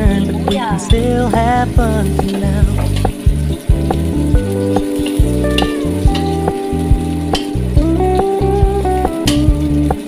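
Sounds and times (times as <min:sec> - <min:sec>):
background music with bass: 0:00.0 - 0:10.0
onion and garlic sizzling in oil: 0:00.0 - 0:10.0.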